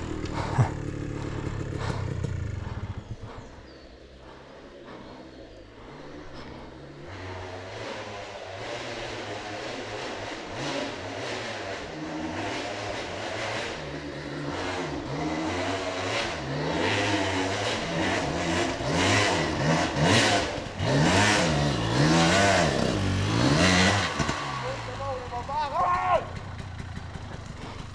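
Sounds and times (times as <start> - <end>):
dirt bike engine revving: 0.0 - 5.2, 5.8 - 27.9.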